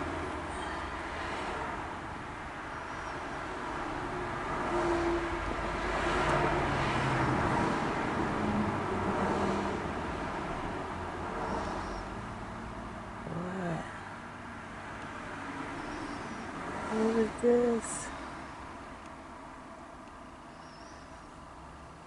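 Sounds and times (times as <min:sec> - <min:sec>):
distant vehicle passing: 0:00.0 - 0:22.0.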